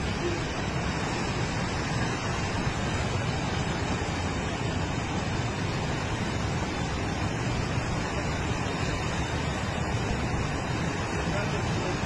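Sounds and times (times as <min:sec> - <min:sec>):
flooded river water rushing: 0:00.0 - 0:12.0.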